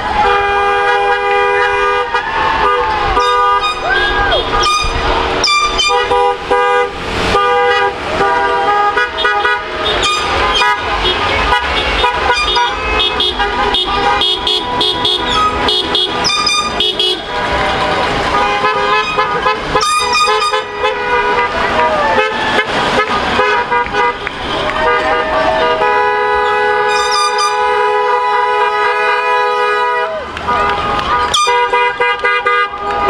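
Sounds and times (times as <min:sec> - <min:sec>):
car horns honking: 0:00.0 - 0:33.0
cars driving past slowly: 0:00.0 - 0:33.0.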